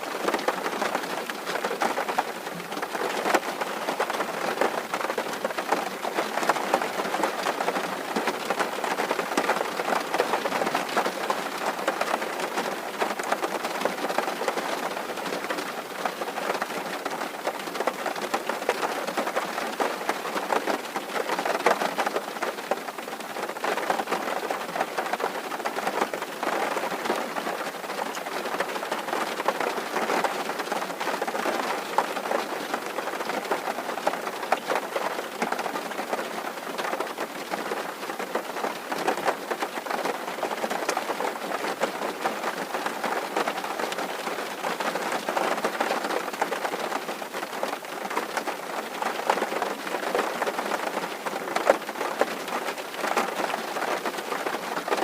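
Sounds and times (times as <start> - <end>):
rain drumming on a tin roof: 0.0 - 55.0.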